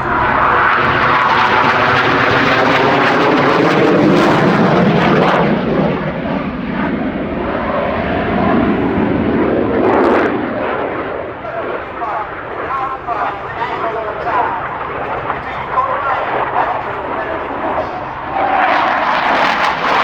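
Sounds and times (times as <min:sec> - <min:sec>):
jet flying past: 0:00.0 - 0:20.0.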